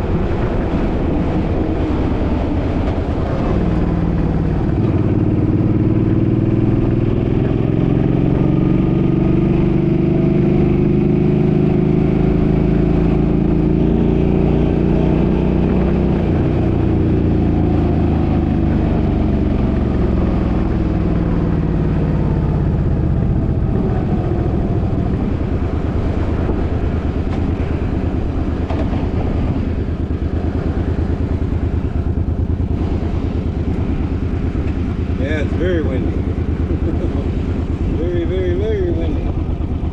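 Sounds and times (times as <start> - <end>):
road and wind noise: 0.0 - 39.9
vehicle engine under way: 0.0 - 39.9.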